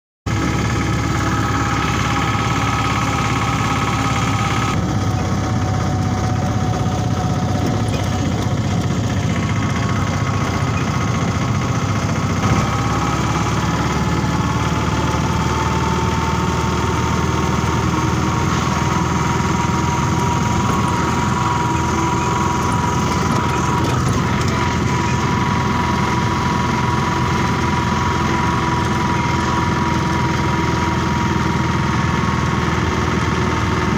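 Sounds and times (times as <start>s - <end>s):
vehicle engine and road rumble: 0.3s - 33.9s.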